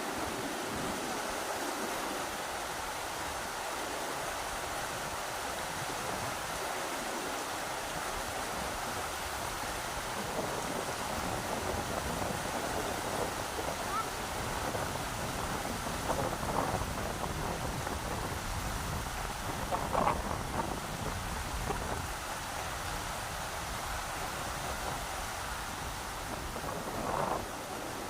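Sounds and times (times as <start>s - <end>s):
river rushing: 0.0s - 28.0s
wind rumbling on microphone: 0.0s - 28.0s.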